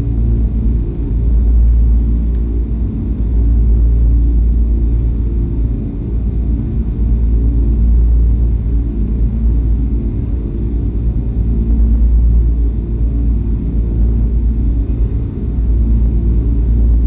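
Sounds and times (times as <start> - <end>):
deep steady rumble: 0.0 - 17.0.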